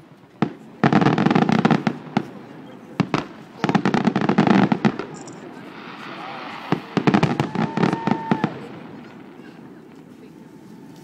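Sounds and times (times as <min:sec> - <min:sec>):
firework bangs: 0:00.4 - 0:10.0.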